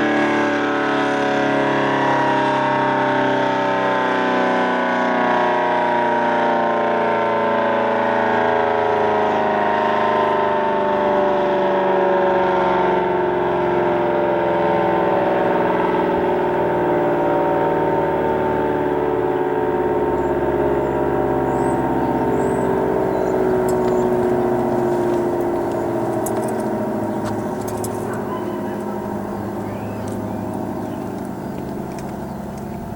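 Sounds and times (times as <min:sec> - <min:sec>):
warning siren winding down: 0:00.0 - 0:32.9.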